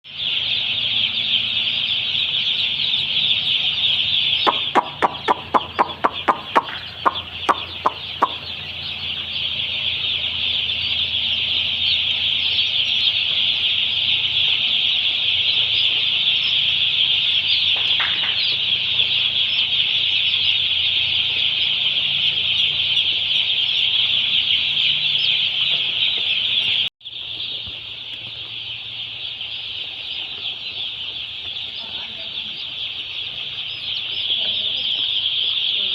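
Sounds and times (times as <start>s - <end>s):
chickens chirping and clucking: 0.0s - 35.9s.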